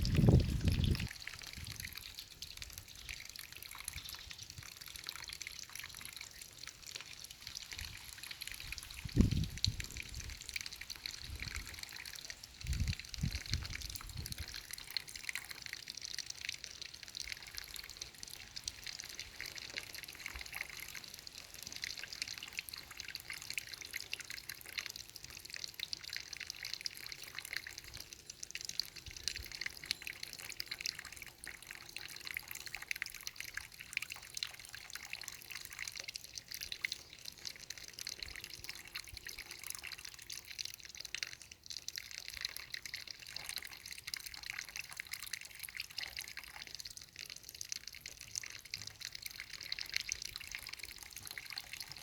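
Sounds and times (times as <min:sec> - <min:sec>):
water trickling and dripping: 0:00.0 - 0:52.0.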